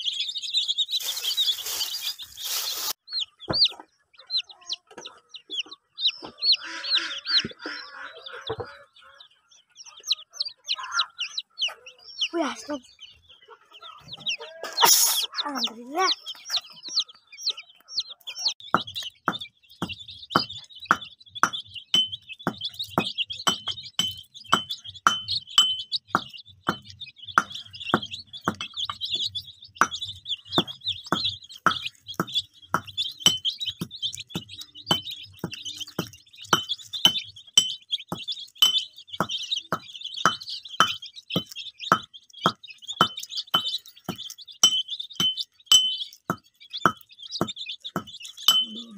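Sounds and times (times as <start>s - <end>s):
chicks peeping: 0.0s - 48.9s.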